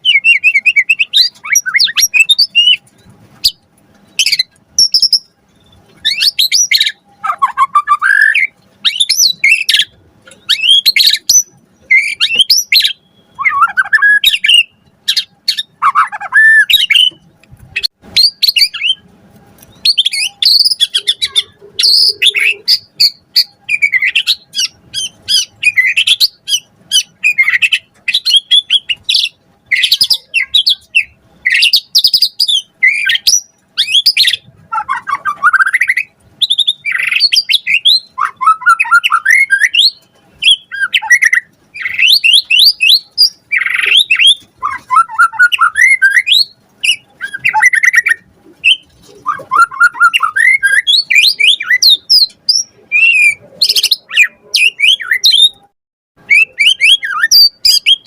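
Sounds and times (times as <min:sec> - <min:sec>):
songbird singing varied whistles: 0:00.0 - 0:02.8, 0:03.4 - 0:17.2, 0:19.7 - 0:58.0.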